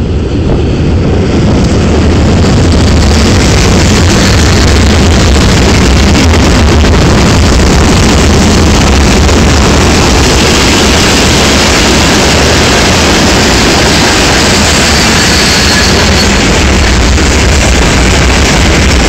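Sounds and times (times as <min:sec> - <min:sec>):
freight train wheels on rail: 0:00.0 - 0:19.0.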